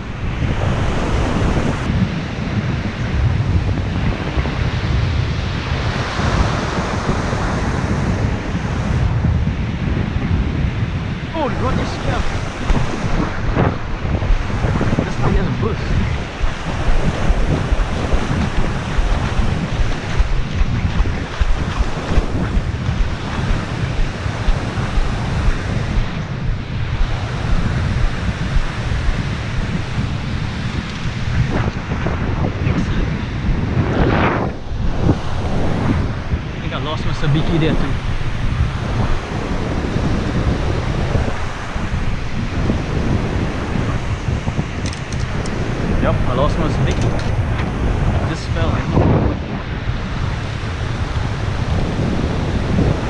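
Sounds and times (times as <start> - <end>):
surf breaking and foaming: 0.0 - 53.0
wind buffeting microphone: 0.0 - 53.0.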